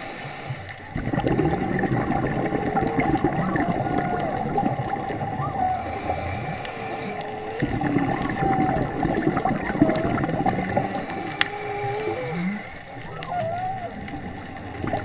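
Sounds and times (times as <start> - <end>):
underwater water rush: 0.0 - 15.0
whale song: 0.0 - 15.0.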